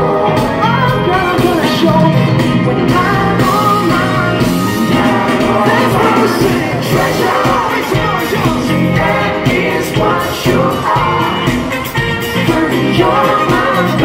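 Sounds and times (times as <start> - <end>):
man singing: 0.0 - 11.5, 12.4 - 14.0
live band playing: 0.0 - 14.0.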